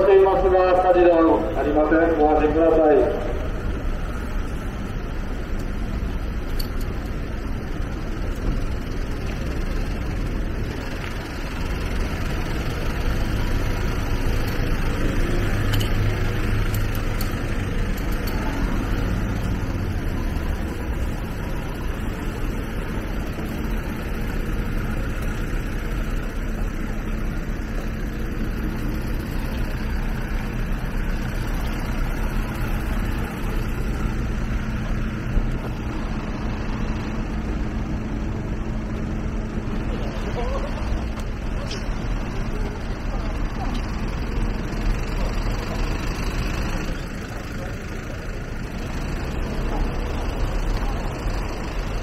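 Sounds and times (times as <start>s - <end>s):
engines idling: 0.0s - 52.0s
passing traffic: 0.0s - 52.0s.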